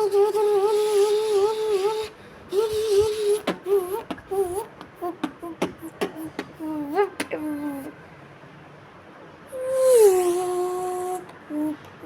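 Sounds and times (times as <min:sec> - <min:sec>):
person imitating engine revs: 0:00.0 - 0:08.0, 0:09.5 - 0:12.0.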